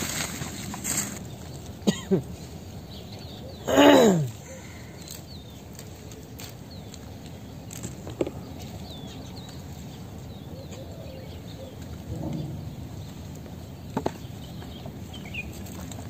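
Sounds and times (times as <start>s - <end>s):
steady outdoor hiss: 0.0s - 16.0s
small birds chirping: 0.1s - 16.0s.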